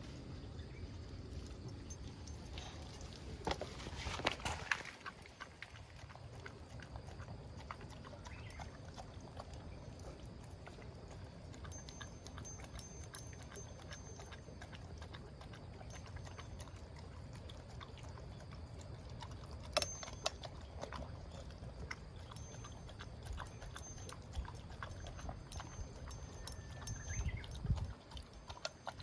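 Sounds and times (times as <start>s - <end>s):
pet eating crunchy food: 0.0s - 29.0s.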